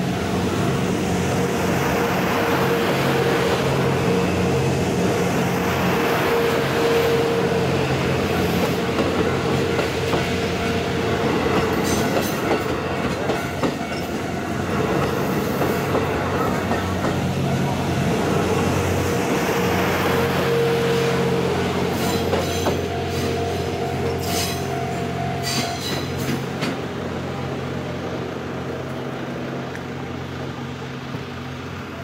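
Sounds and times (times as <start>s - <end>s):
diesel railcar engine hum: 0.0s - 32.0s
wheel and rail rumble: 0.0s - 32.0s.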